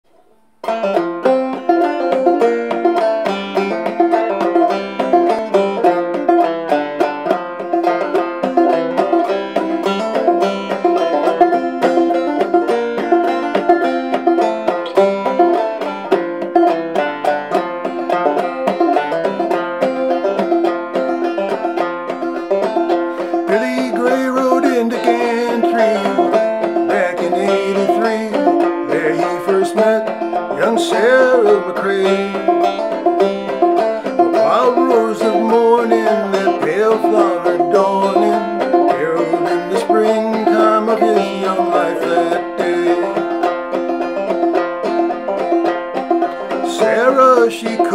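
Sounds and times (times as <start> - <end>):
clawhammer banjo tune: 0.1 - 47.9.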